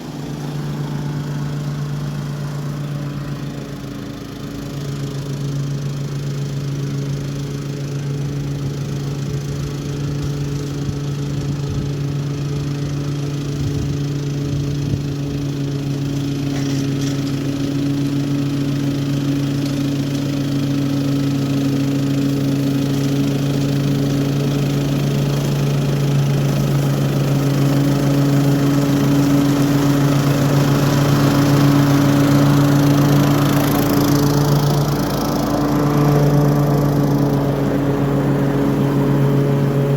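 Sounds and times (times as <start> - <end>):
lawn mower engine cutting grass: 0.0 - 39.9.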